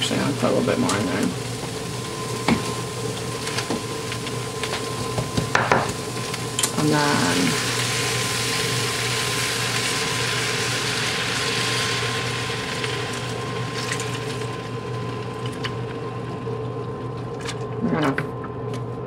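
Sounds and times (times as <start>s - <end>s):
milk hissing in hot pan: 0.0s - 17.2s.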